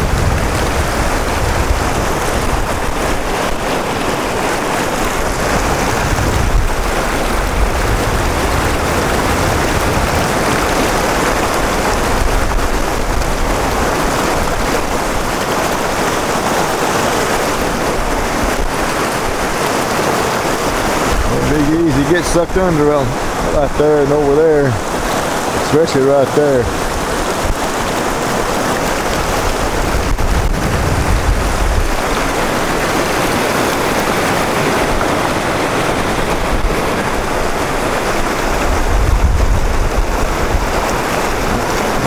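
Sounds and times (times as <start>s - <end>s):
whitewater rapids rushing: 0.0s - 42.0s.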